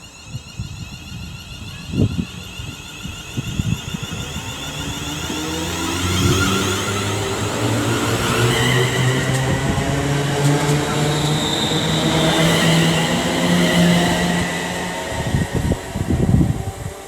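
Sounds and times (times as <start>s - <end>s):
electric train motor whine: 0.0s - 17.0s.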